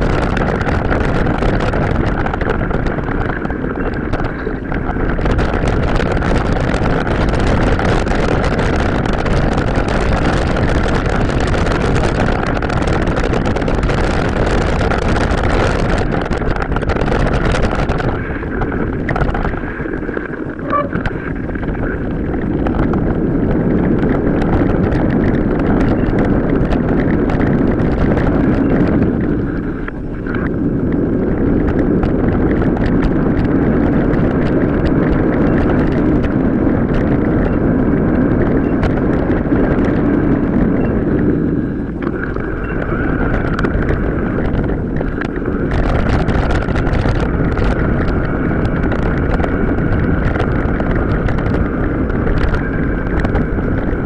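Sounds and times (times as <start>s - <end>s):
mountain bike rattling: 0.0s - 54.0s
wind noise on microphone: 0.0s - 54.0s.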